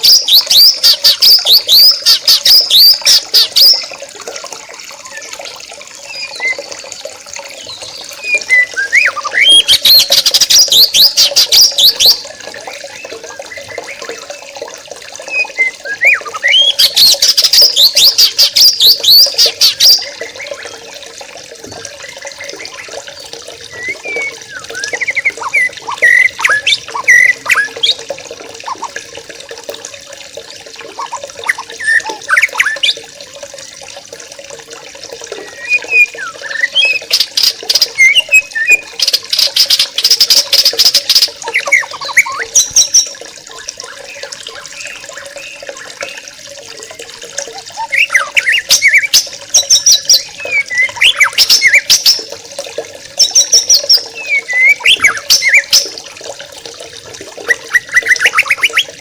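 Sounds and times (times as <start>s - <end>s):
birds chirping and chattering: 0.0s - 29.0s, 30.8s - 33.0s, 35.3s - 46.4s, 47.1s - 52.4s, 53.1s - 56.0s, 57.3s - 59.0s.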